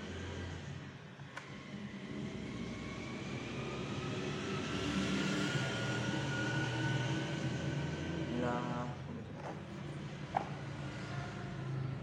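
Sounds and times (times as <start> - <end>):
vehicle engine running with rising whine: 0.0 - 12.0.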